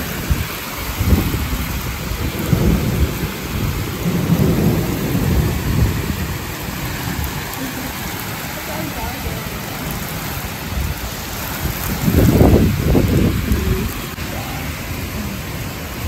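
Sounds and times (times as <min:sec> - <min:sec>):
heavy rain pouring: 0:00.0 - 0:16.0
low rumbling: 0:00.0 - 0:16.0.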